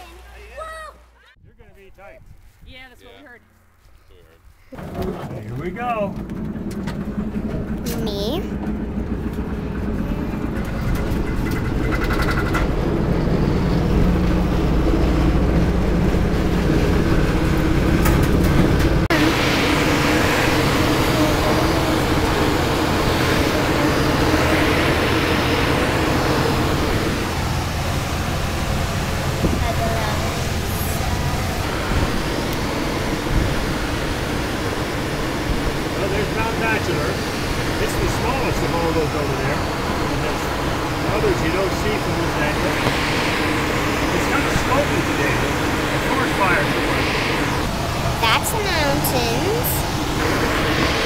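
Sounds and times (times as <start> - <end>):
wheel rumbling and rattling on runway: 4.6 - 51.0
rush of air in flight: 6.3 - 51.0.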